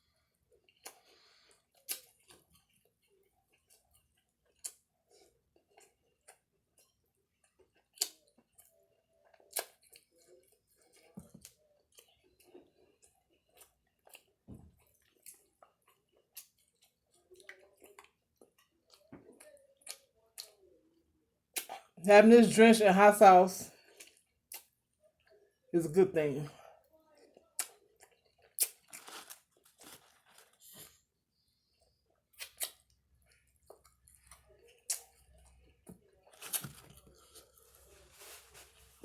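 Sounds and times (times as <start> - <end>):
person chewing food: 0.0 - 22.0, 23.8 - 25.7, 26.7 - 39.0.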